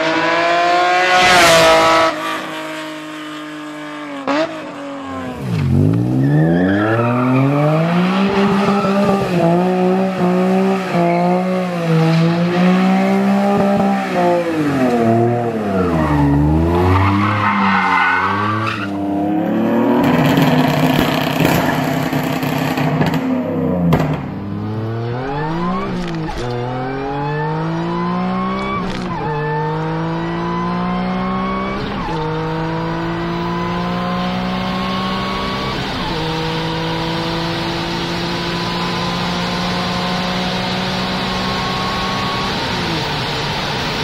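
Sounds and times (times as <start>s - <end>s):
car engine accelerating through gears: 0.0s - 44.0s.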